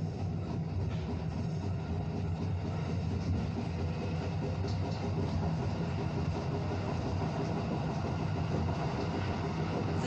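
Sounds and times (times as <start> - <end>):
electric train running on track: 0.0 - 10.0.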